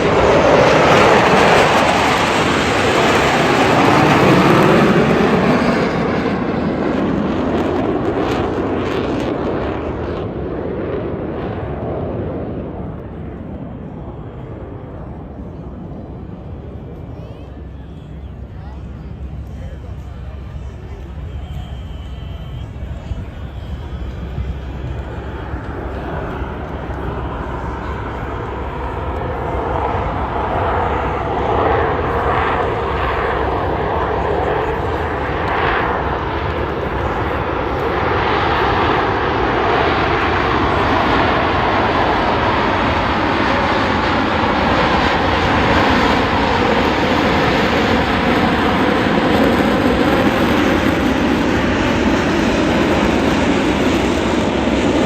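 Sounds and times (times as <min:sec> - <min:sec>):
jet roar overhead: 0:00.0 - 0:55.0.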